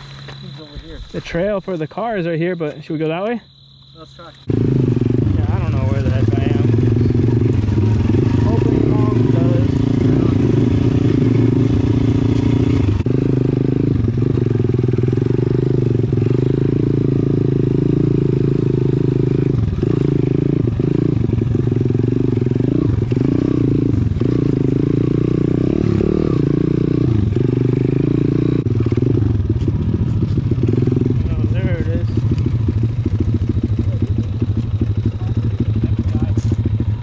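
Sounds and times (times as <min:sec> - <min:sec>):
pit bike engine running hard: 0:04.2 - 0:37.0.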